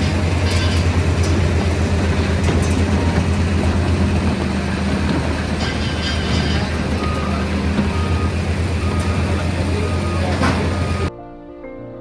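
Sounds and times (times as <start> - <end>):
heavy engine droning: 0.0 - 11.1
light clatters: 0.0 - 11.1.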